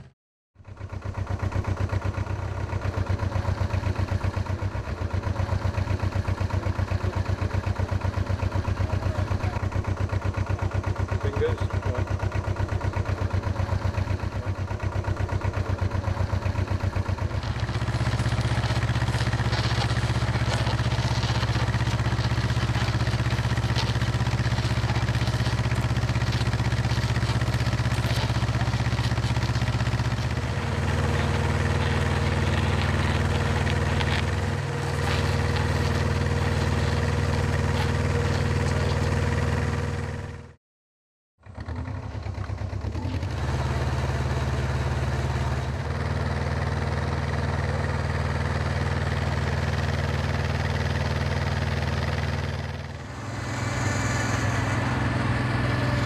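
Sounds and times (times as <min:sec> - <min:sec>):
drilling rig engine running: 0:00.0 - 0:40.5, 0:41.4 - 0:56.0.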